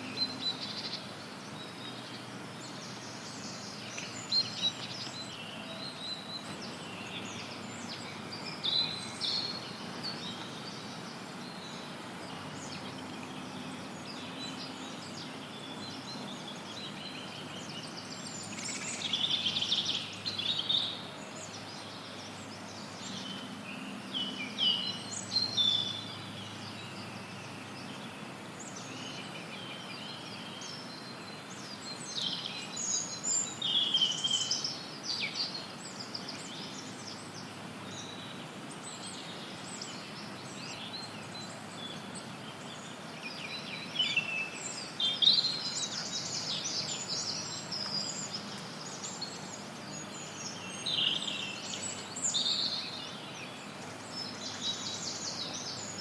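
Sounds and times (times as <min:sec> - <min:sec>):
songbirds chirping and trilling: 0:00.0 - 0:56.0
white noise hiss: 0:00.0 - 0:56.0.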